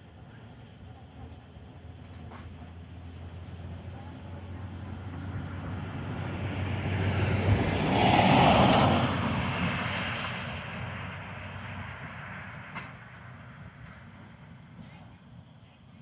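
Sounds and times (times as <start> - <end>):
vehicle passing on street: 1.6 - 15.6.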